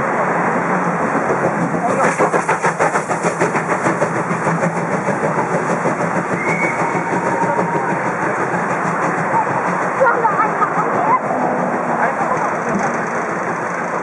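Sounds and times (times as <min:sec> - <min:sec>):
steam locomotive beats: 0:00.0 - 0:14.0
train running rumble: 0:00.0 - 0:14.0.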